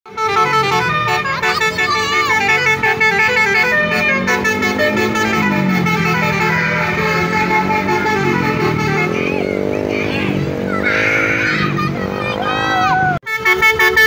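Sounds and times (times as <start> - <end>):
multi-tone musical air horns: 0.1 - 11.8, 13.2 - 14.0.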